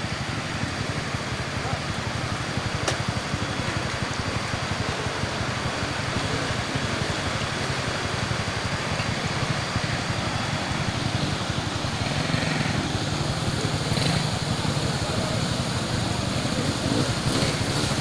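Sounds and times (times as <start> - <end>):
motorcycle engines running: 0.0 - 18.0.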